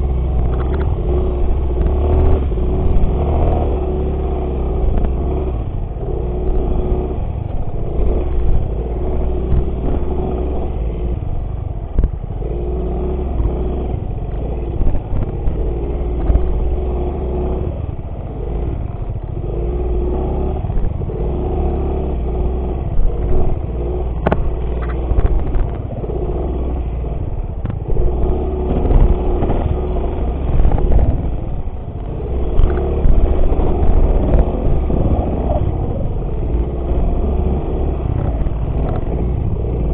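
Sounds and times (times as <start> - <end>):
heavy low rumble: 0.0 - 39.9
motorcycle engine running: 0.0 - 39.9.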